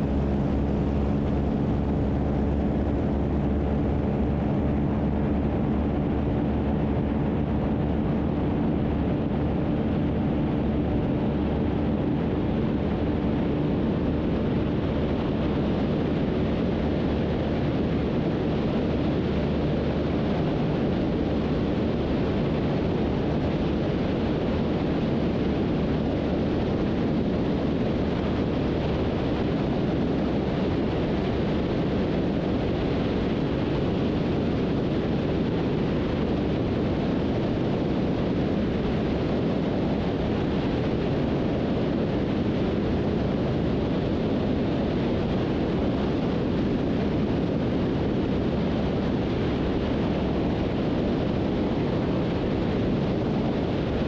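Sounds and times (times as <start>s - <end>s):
propeller plane engines droning: 0.0s - 54.0s.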